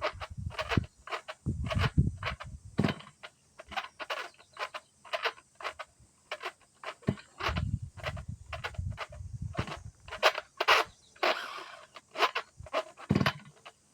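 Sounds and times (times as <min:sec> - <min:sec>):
recoil starter clicking and rattling: 0:00.0 - 0:13.9.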